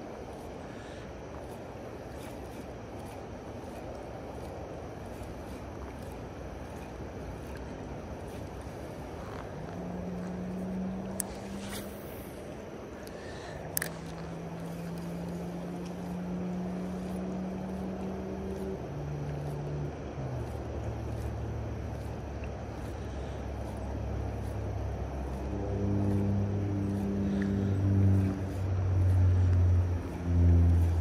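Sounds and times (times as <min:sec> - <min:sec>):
low engine drone: 0:00.0 - 0:31.0
water rushing: 0:00.0 - 0:31.0.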